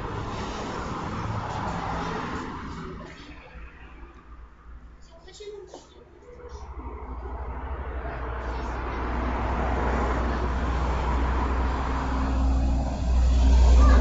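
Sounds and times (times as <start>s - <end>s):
vehicle engine and tyre noise: 0.0s - 5.1s, 5.8s - 14.0s.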